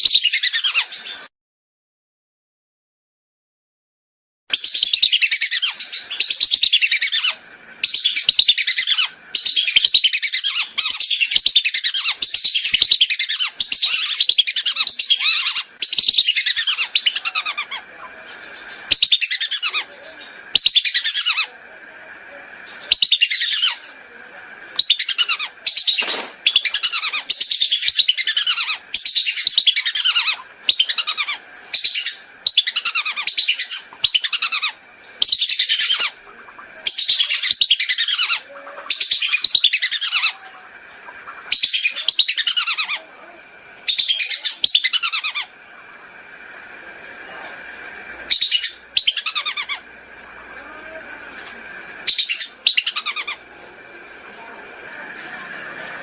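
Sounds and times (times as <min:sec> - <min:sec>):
ducks whistling: 0:04.5 - 0:21.6, 0:22.6 - 0:24.0, 0:24.7 - 0:46.4, 0:47.3 - 0:51.1, 0:51.8 - 0:53.6.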